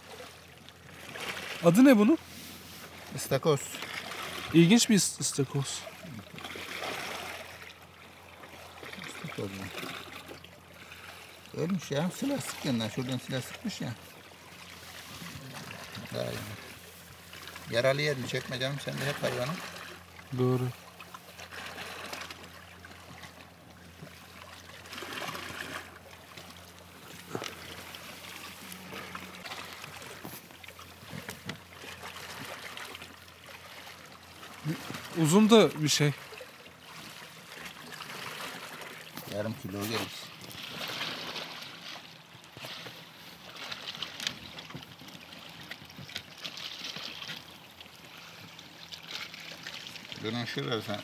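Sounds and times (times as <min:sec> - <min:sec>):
water trickling and splashing: 0:00.0 - 0:51.0.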